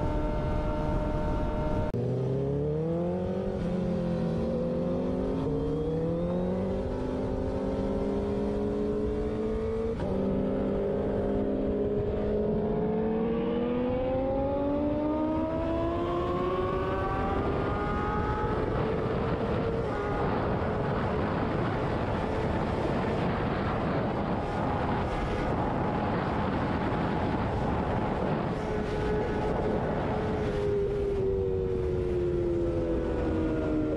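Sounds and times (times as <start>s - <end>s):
motorcycle engine accelerating: 0.0s - 33.9s
wind and road rush: 0.0s - 33.9s.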